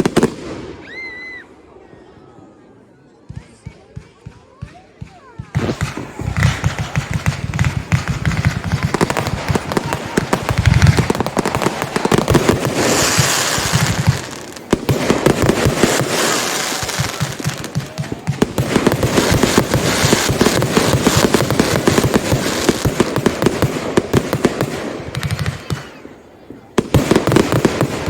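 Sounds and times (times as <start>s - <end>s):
fireworks bangs and crackle: 0.0s - 1.2s, 3.3s - 28.0s.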